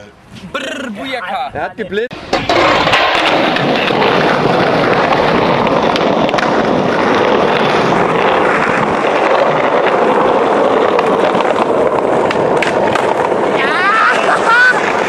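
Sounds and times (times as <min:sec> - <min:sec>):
skateboard wheels rolling on pavement: 0:00.0 - 0:15.0.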